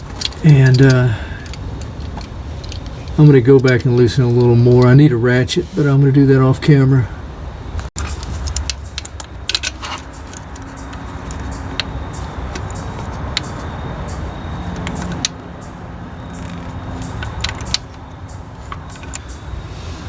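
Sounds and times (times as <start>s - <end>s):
metal tools clinking: 0.0s - 5.1s, 8.0s - 19.5s
low background hum: 0.0s - 20.0s.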